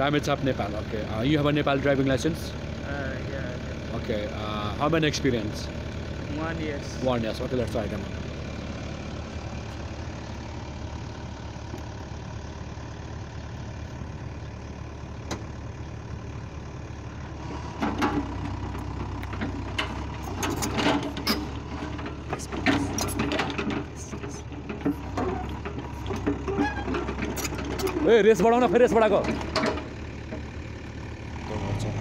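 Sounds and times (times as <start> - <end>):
excavator diesel engine: 0.0 - 32.0.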